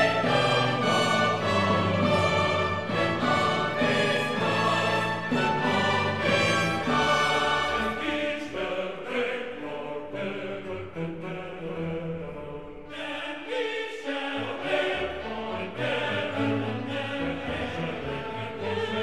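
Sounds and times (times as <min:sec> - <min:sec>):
background music with choir voices: 0:00.0 - 0:19.0.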